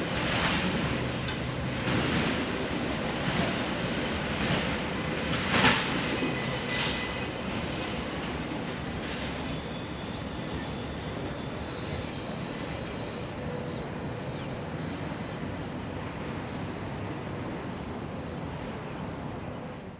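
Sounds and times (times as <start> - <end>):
freight train rumbling by: 0.0 - 19.9.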